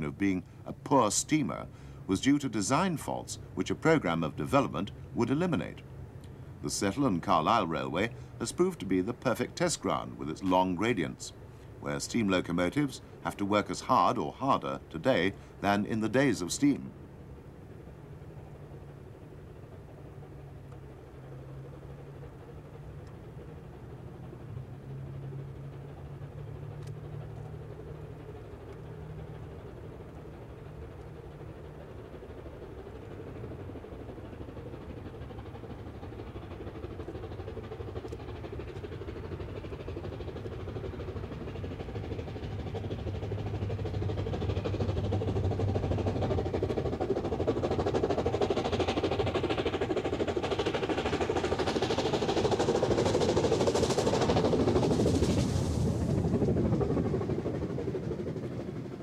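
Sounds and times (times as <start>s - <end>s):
steam locomotive working hard: 0.0s - 59.0s.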